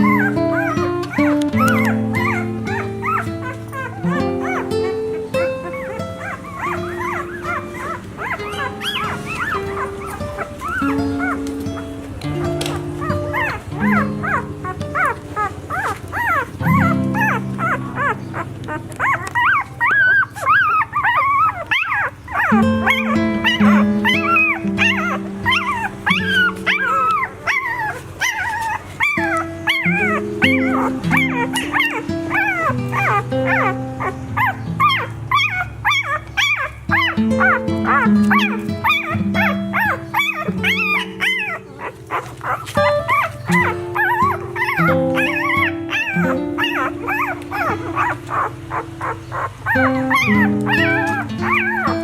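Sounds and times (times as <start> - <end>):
background music with held notes: 0.0 - 52.0
puppies whining and squealing: 0.0 - 52.0.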